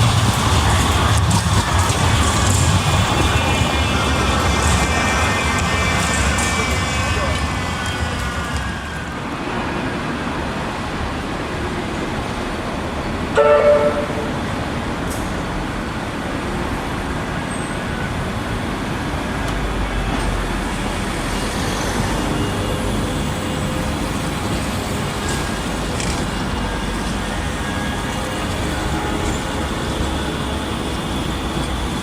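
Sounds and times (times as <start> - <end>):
street traffic: 0.0 - 32.0
tram rumbling: 0.0 - 32.0.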